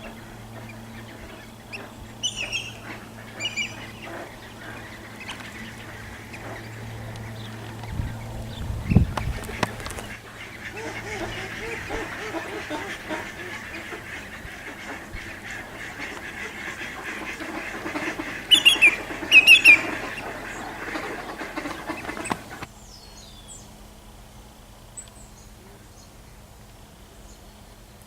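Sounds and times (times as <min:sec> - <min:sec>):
ducks and geese calling: 0:00.0 - 0:22.7
thin high bird calls: 0:00.0 - 0:23.8
steady low hum: 0:00.0 - 0:28.0.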